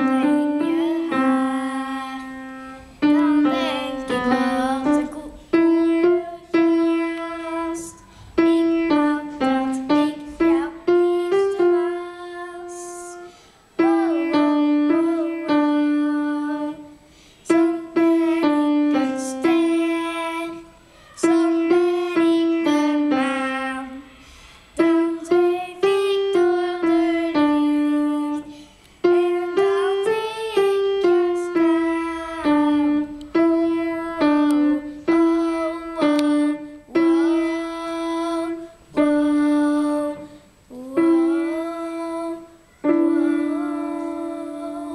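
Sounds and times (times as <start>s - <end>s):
slow piano melody: 0.0s - 20.6s, 21.2s - 24.1s, 24.8s - 44.9s.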